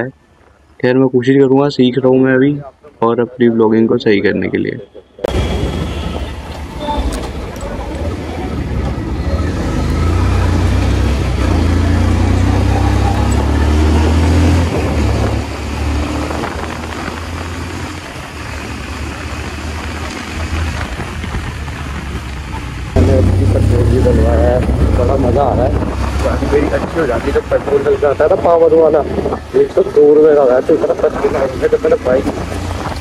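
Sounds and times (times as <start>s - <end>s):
motorbike engine and road noise: 5.2s - 33.0s
low rumble of wind: 5.3s - 33.0s.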